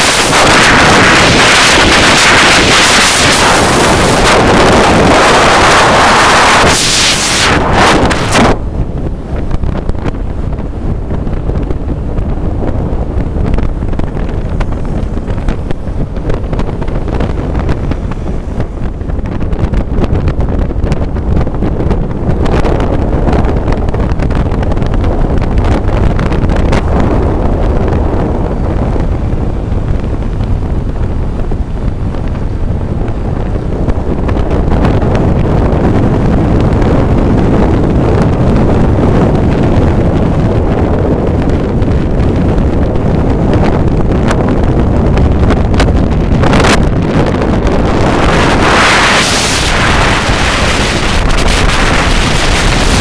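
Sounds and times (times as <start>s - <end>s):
motorcycle engine: 0.0s - 53.0s
road noise: 0.0s - 53.0s
wind buffeting microphone: 0.0s - 53.0s.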